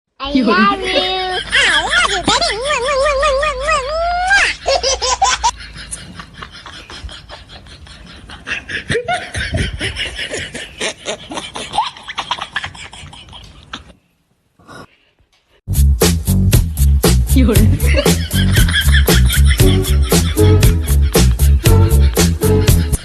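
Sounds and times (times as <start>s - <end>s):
person laughing in rapid bursts: 0.4s - 13.9s, 17.4s - 23.0s.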